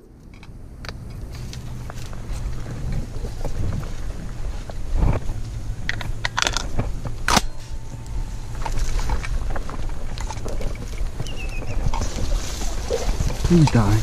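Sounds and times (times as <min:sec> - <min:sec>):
wind rumbling on microphone: 0:00.0 - 0:14.0
stems brushing against camera: 0:01.1 - 0:14.0.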